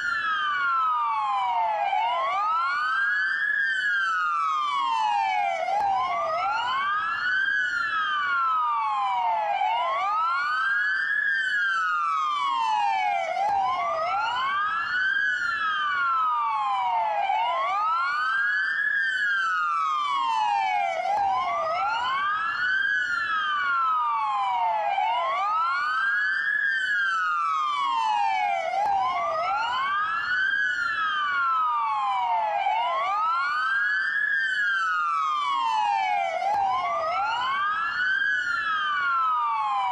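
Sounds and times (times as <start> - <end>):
police sirens wailing: 0.0 - 39.9.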